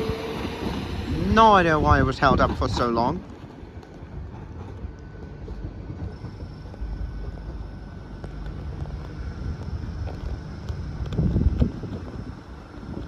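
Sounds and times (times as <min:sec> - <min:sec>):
diesel trains rumbling: 0:00.0 - 0:13.0
wind on microphone: 0:00.0 - 0:13.0.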